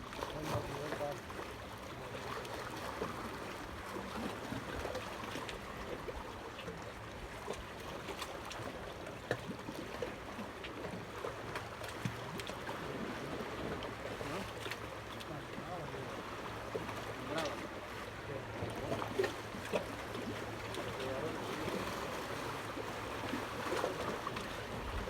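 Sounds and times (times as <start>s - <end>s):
water lapping and trickling: 0.0s - 25.0s.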